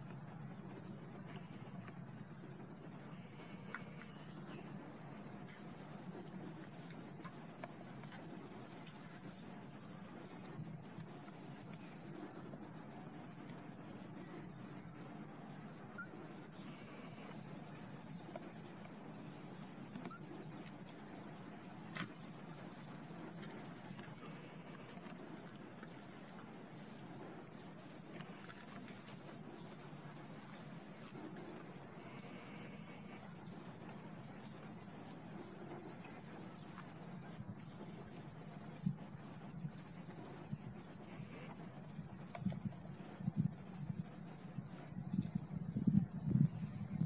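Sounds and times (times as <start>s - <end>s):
faint short insect chirps: 0.0s - 47.0s
insects droning: 0.0s - 47.0s.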